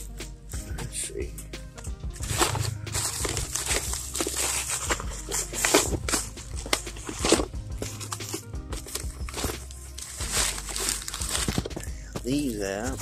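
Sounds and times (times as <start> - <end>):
plastic packaging crinkling: 2.2 - 13.0.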